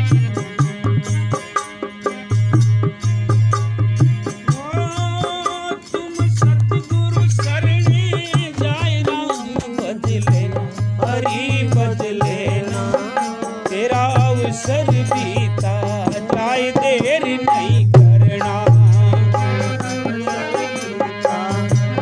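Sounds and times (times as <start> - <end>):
devotional melody: 0.0 - 22.0
tabla rhythm: 0.0 - 22.0.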